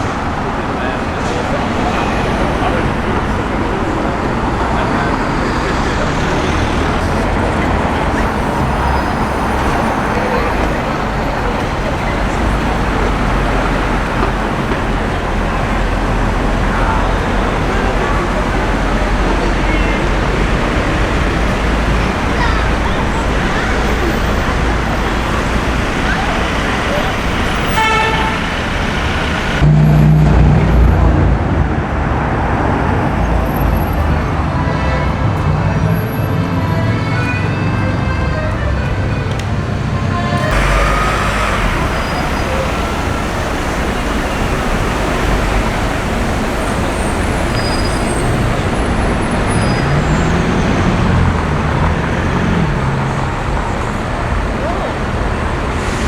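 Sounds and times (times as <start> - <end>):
low-pitched vehicle engine: 0.0 - 34.6, 38.5 - 56.0
street traffic rumble: 0.0 - 56.0.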